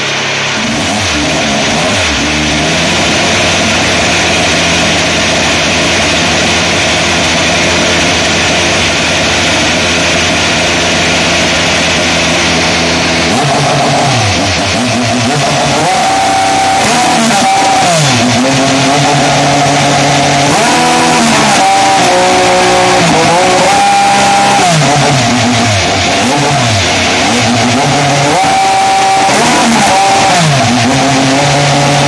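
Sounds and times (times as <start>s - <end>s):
race car engine revving and idling: 0.0s - 32.0s.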